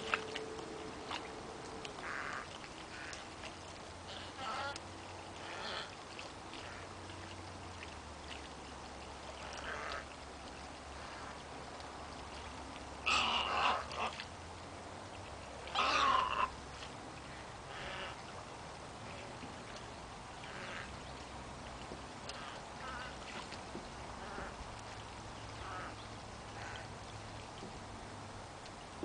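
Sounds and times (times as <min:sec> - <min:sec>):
wading birds calling: 0:00.0 - 0:14.4, 0:15.1 - 0:27.6.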